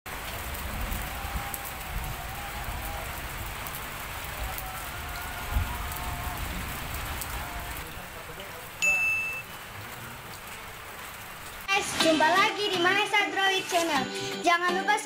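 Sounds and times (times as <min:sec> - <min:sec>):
light rain patter: 0:00.1 - 0:15.0.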